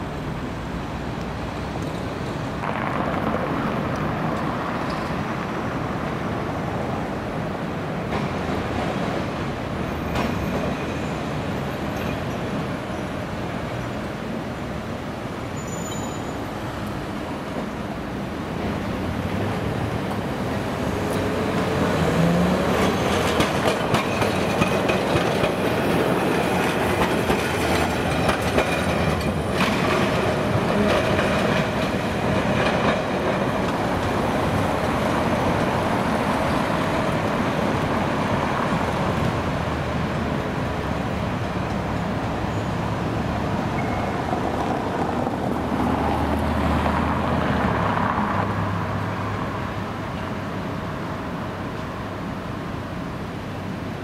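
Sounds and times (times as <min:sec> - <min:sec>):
approaching tram rumble: 0:00.0 - 0:54.0
tram rumble: 0:00.0 - 0:54.0
tram wheels clacking over rail joints: 0:01.6 - 0:15.4, 0:16.6 - 0:48.7.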